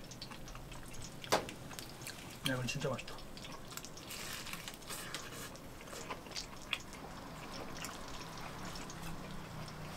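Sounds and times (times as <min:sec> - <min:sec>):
crackles and clicks of eating fried chicken: 0:00.0 - 0:09.9.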